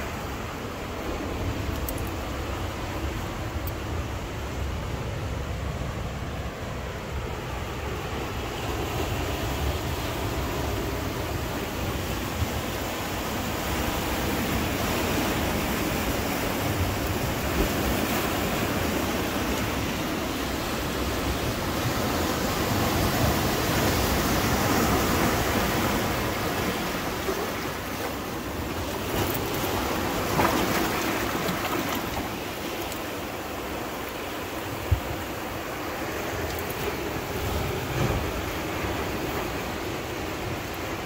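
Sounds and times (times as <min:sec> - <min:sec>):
water rushing among rocks: 0:00.0 - 0:41.0.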